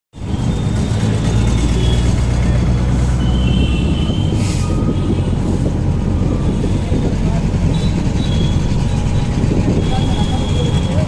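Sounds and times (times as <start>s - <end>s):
auto-rickshaw engine rumbling: 0.1s - 11.0s.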